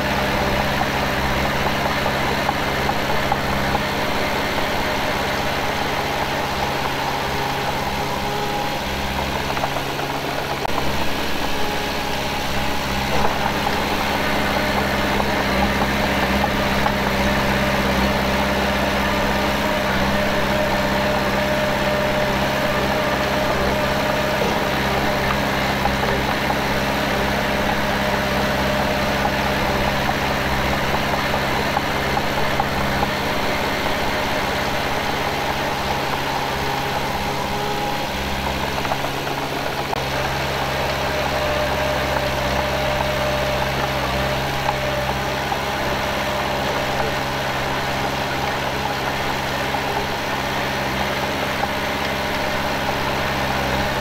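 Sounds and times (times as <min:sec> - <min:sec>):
heavy machinery diesel engine running: 0:00.0 - 0:54.0.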